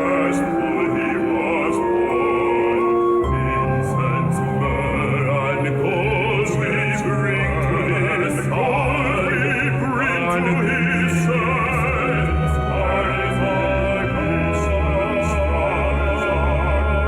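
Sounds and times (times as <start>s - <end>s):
opera singer with vibrato: 0.0s - 17.0s
orchestral accompaniment: 0.0s - 17.0s.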